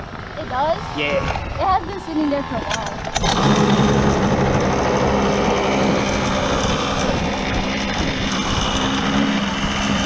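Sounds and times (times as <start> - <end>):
small gas engine running: 0.0 - 10.0.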